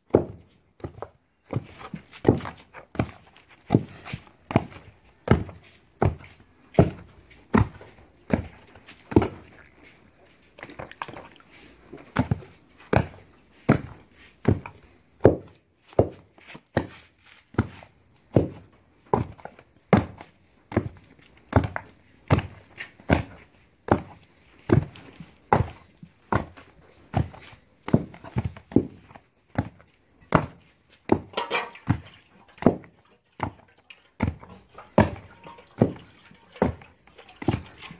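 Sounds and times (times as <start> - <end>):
wooden pestle pounding in mortar: 0.1 - 9.4, 12.2 - 17.0, 17.6 - 37.9.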